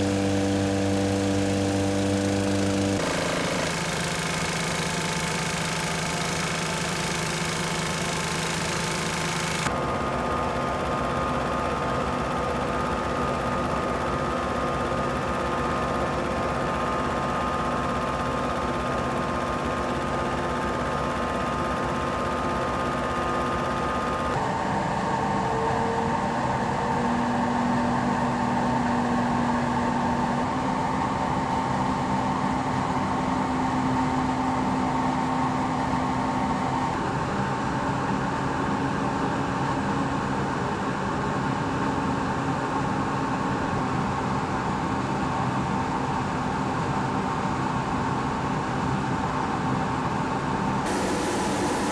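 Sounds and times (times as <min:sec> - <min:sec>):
water pump engine drone: 0:00.0 - 0:51.9.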